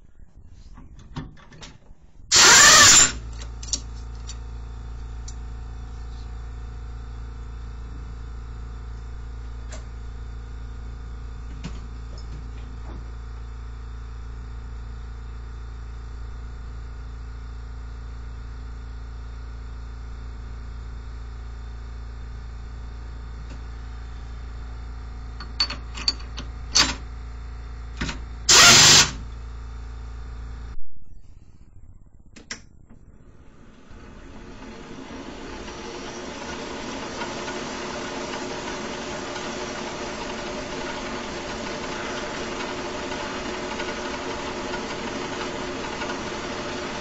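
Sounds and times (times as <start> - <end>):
machine hum: 2.2 - 47.0.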